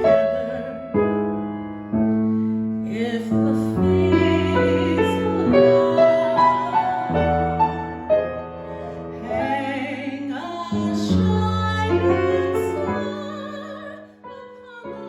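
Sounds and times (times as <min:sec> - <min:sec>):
slow piano accompaniment: 0:00.0 - 0:15.0.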